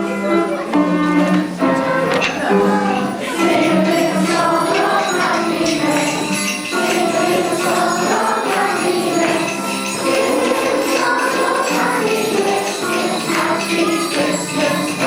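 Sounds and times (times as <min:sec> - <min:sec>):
children singing together: 0:00.3 - 0:15.0
jingle bells shaken: 0:01.4 - 0:15.0.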